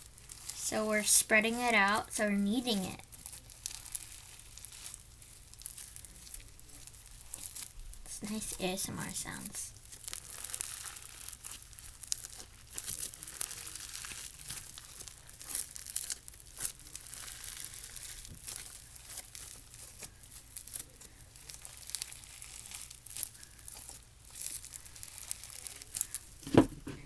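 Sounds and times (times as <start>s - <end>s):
slime crackling and popping: 0.0s - 26.9s.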